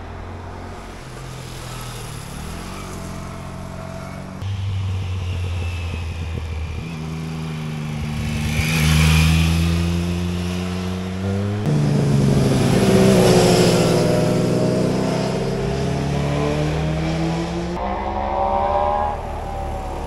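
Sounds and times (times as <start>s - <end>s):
motorcycle engines accelerating: 0.0s - 20.0s
motorcycle passing close by: 1.0s - 20.0s.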